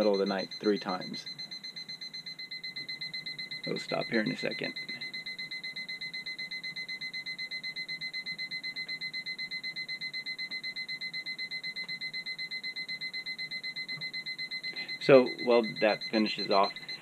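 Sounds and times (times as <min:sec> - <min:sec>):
rapid high-pitched alarm beeps: 0:00.0 - 0:17.0.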